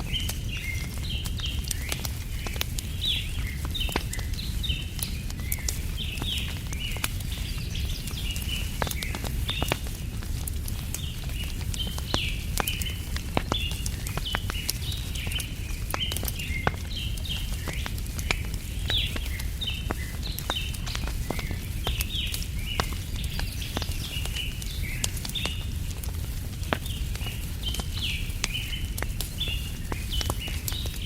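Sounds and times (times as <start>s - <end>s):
small birds chirping: 0.0s - 31.0s
wood fire crackling: 0.0s - 31.0s.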